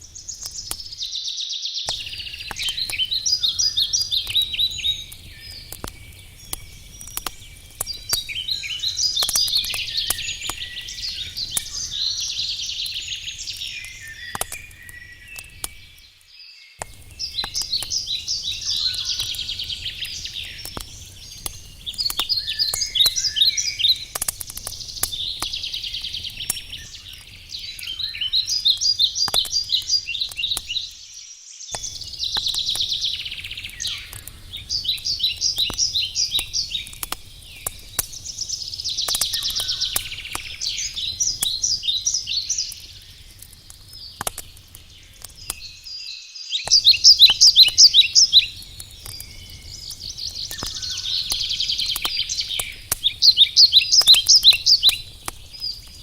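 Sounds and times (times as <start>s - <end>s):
campfire crackling: 0.0s - 1.2s, 1.9s - 56.0s
songbird trilling: 0.1s - 31.0s, 31.8s - 43.2s, 45.4s - 55.8s.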